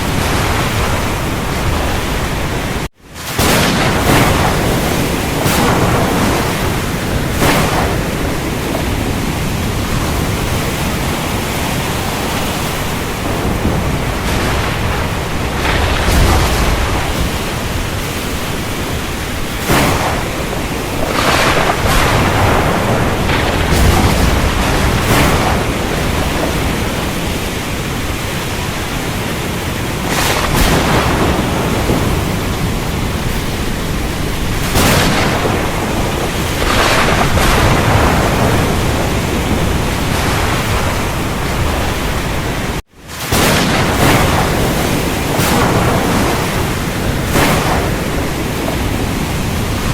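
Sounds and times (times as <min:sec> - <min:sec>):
low rumbles of thunder: 0:00.0 - 0:49.9
rain and wind rushing: 0:00.0 - 0:49.9
thunder cracks: 0:00.0 - 0:49.9.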